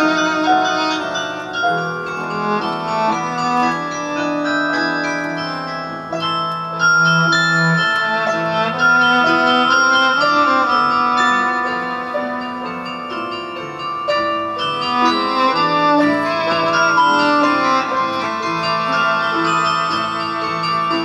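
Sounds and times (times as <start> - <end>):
carillon bells ringing: 0.0 - 21.0
piano chords: 0.0 - 21.0.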